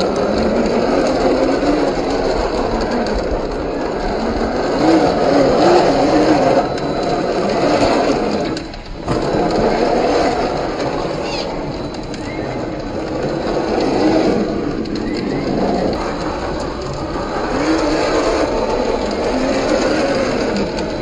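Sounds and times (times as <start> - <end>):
toy car motor whining: 0.0 - 21.0.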